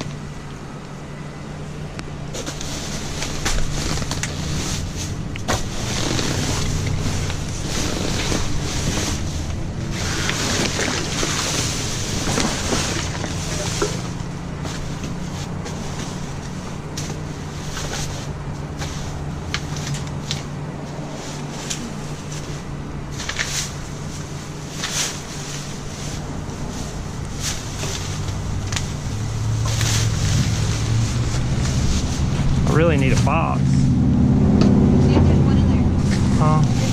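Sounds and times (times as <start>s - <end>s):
vehicle engine idling: 0.0s - 36.9s.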